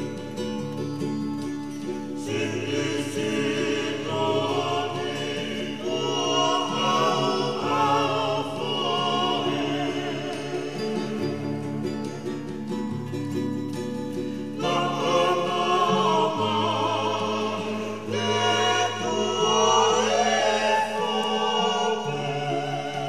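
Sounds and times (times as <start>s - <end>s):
steady musical accompaniment: 0.0s - 23.0s
vocal group singing in harmony: 2.0s - 12.8s, 14.2s - 23.0s.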